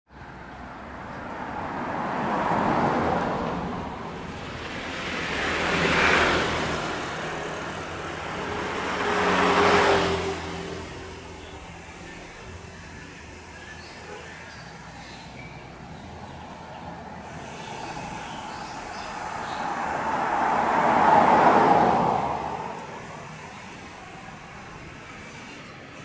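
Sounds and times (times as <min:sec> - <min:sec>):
vehicles passing by: 0:00.1 - 0:26.0.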